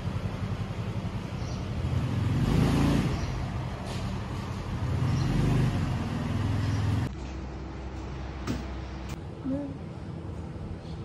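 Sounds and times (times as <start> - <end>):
vehicle engines humming: 0.0 - 11.0.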